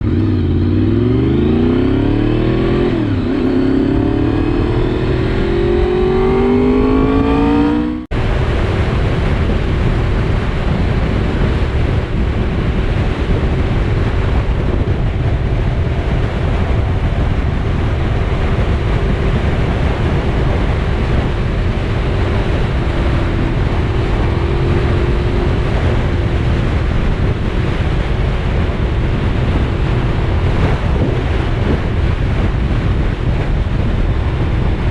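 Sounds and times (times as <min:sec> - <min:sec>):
motorcycle engine accelerating: 0:00.0 - 0:34.9
wind rush on microphone: 0:00.0 - 0:34.9.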